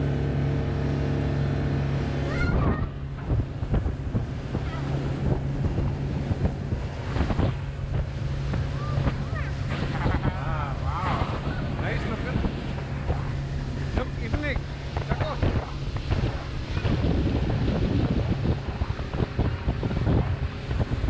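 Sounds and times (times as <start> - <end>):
low hum: 0.0 - 21.0
motorboat engine running: 0.0 - 21.0
wind buffeting microphone: 0.0 - 21.0.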